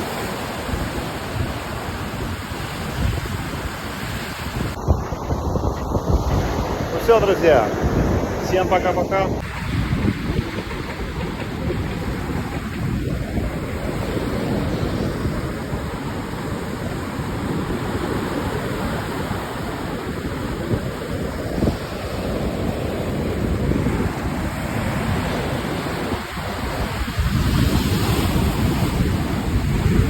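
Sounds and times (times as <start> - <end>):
surf breaking on shore: 0.0 - 30.0
wind buffeting microphone: 0.0 - 30.0.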